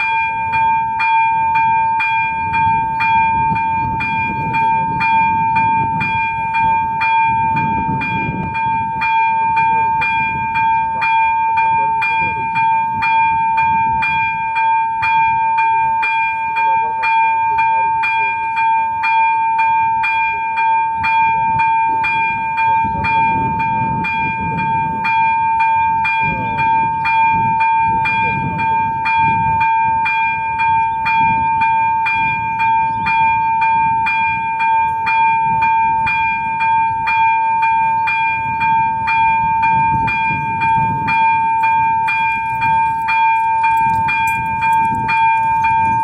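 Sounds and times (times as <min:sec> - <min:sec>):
level-crossing bell ringing: 0:00.0 - 0:46.0.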